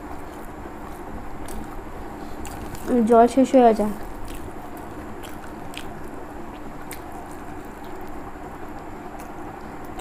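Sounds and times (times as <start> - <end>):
steady background noise: 0.0 - 10.0
chewing: 0.2 - 3.0, 4.0 - 10.0.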